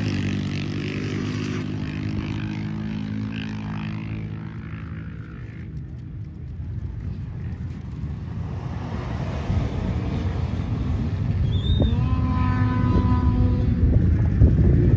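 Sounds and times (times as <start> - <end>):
wheels spinning on snow: 0.0 - 14.9.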